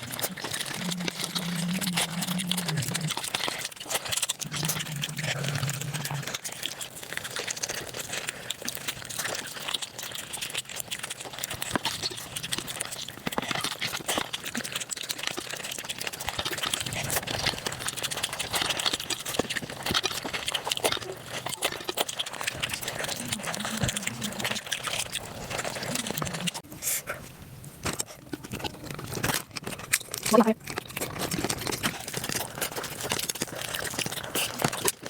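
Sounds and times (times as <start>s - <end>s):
sped-up chewing and smacking: 0.0s - 35.0s.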